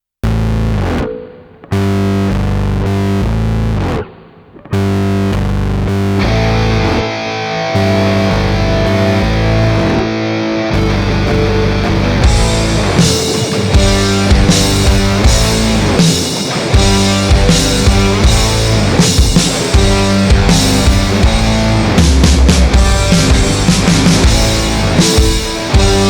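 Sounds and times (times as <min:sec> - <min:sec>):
distorted electric guitar: 0:00.2 - 0:26.0
drums: 0:03.8 - 0:10.1, 0:10.8 - 0:26.0.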